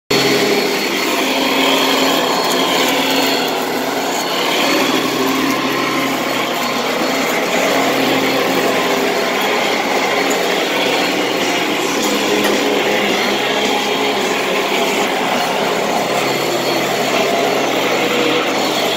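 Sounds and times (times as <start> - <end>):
vacuum cleaner running: 0.1 - 18.9.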